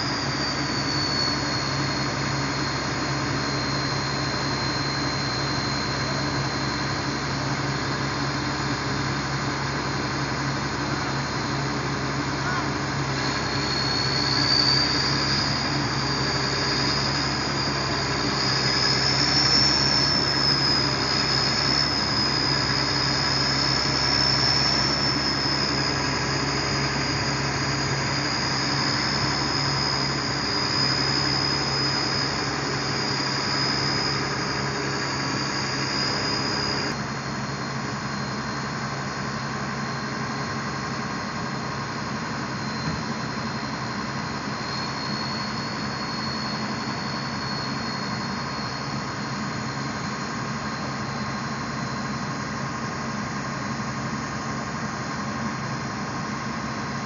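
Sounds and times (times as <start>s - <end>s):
diesel engine running under load: 0.0s - 57.0s
high whine: 0.0s - 57.0s.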